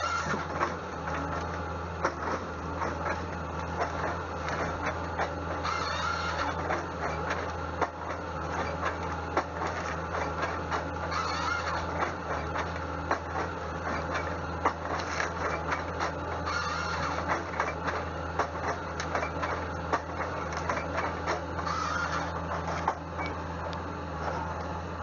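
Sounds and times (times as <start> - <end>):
high-pitched machine whine: 0.0 - 25.0
sawmill machinery hum: 0.0 - 25.0.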